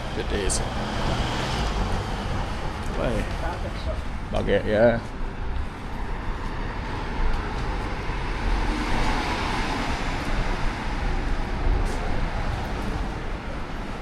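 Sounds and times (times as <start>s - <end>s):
car passing: 0.0s - 14.0s
low traffic rumble: 0.0s - 14.0s.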